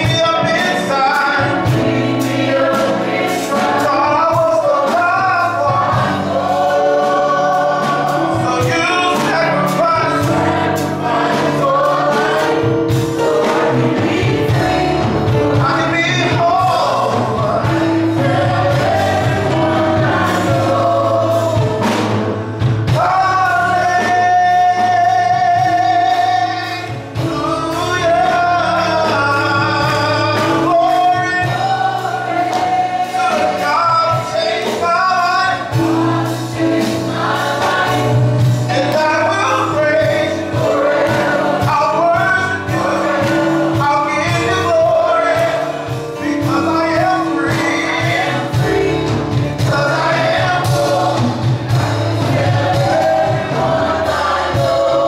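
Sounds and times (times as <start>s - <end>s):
keyboard chords: 0.0s - 55.0s
man singing gospel song: 0.0s - 55.0s.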